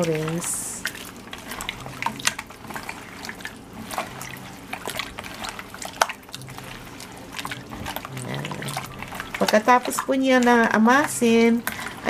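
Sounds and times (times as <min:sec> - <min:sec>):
hands squishing meat in marinade: 0:00.0 - 0:12.0.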